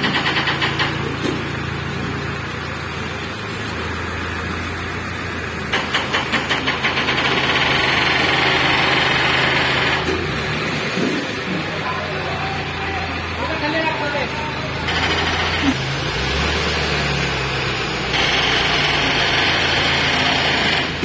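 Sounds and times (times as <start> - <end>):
crane engine running: 0.0 - 21.0.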